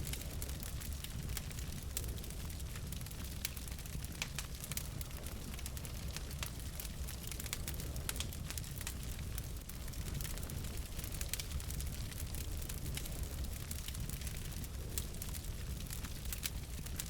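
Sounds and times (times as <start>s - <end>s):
burning logs low rumble: 0.0s - 17.0s
wood fire popping and snapping: 0.0s - 17.0s.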